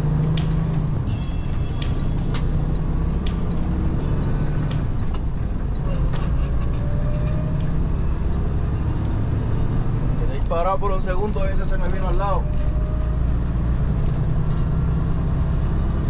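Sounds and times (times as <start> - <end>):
diesel engine drone: 0.0 - 16.0
road noise: 0.0 - 16.0.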